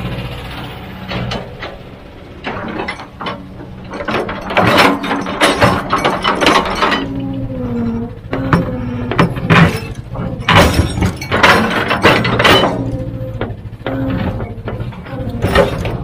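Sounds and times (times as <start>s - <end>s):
heavy machine engine running: 0.0s - 16.0s
sharp clanks and knocks: 1.0s - 16.0s.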